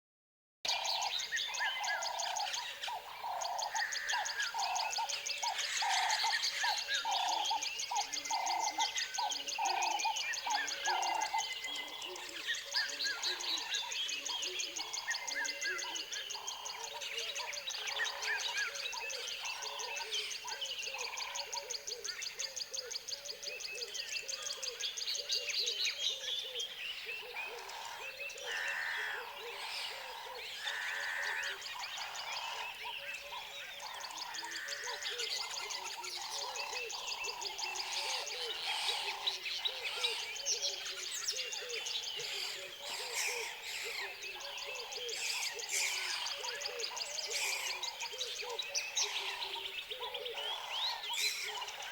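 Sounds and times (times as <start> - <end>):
frogs calling: 0.7 - 23.1, 26.4 - 51.9
birds calling: 0.7 - 51.9.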